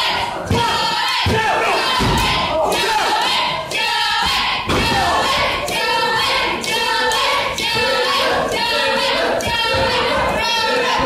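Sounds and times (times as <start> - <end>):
crowd chanting and shouting: 0.0 - 11.0.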